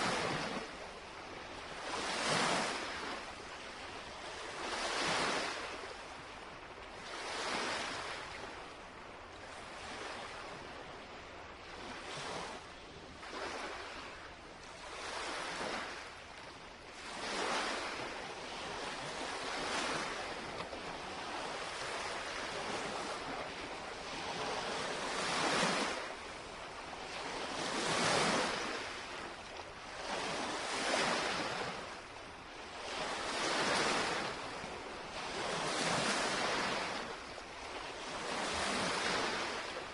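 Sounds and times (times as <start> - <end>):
lake waves lapping on shore: 0.0 - 39.9.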